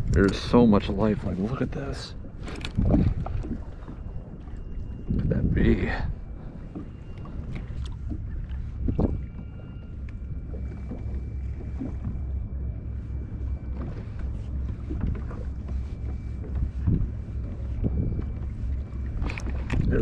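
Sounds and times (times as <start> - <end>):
wind rumbling on microphone: 0.0 - 20.0
faint high whine: 2.8 - 20.0.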